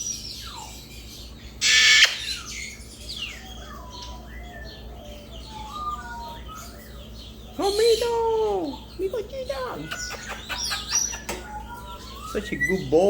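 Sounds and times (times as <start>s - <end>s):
birds chirping and whistling: 0.0s - 13.0s
parrot squawk: 1.6s - 13.0s.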